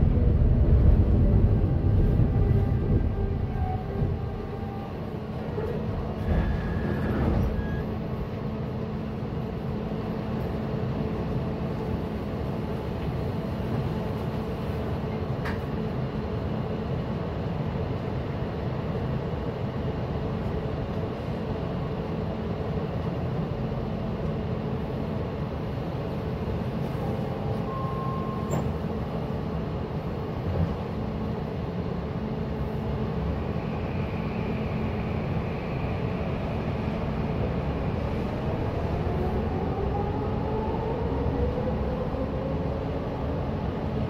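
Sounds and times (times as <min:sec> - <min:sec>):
train equipment rumbling hum: 0:00.0 - 0:44.0.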